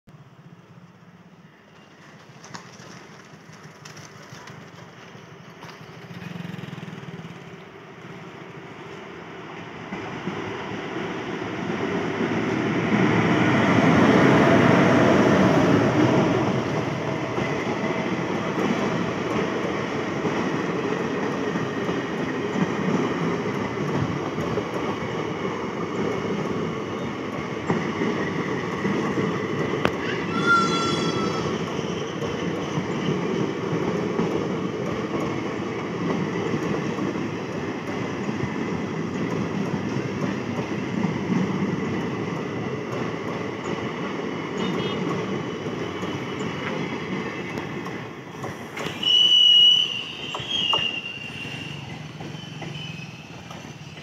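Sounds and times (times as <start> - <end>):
train passing on rails: 0.1 - 54.0.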